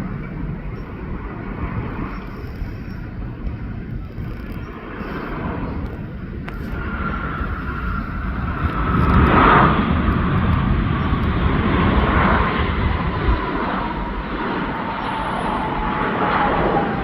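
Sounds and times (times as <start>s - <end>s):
jet airliner engines roaring: 0.0s - 17.0s.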